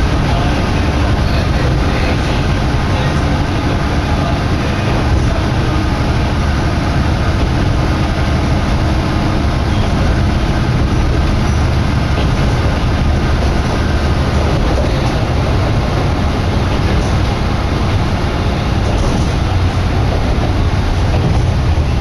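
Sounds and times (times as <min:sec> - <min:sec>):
railcar engine and wheels rumbling: 0:00.0 - 0:22.0.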